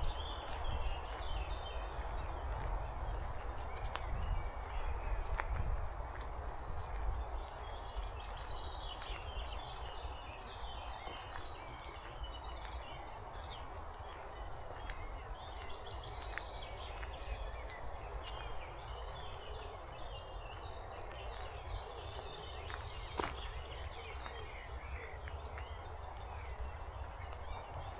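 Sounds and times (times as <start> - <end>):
wind rumbling on microphone: 0.0 - 27.9.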